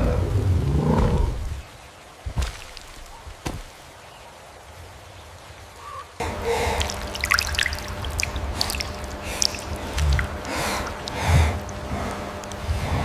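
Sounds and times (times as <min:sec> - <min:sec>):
rain: 0:00.0 - 0:13.0
water dripping and splashing: 0:00.0 - 0:13.0.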